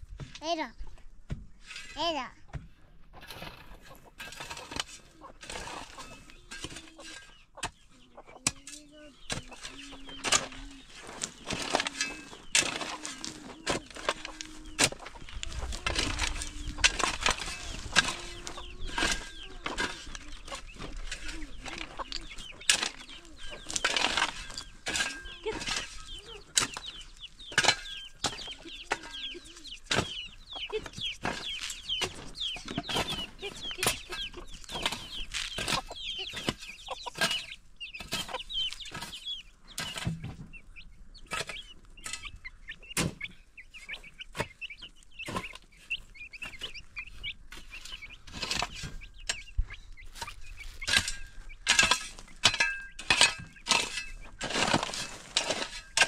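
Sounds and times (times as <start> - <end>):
sharp knocks and scrapes: 1.3 - 56.0
hens clucking: 2.0 - 56.0
high chirping calls: 5.1 - 54.4.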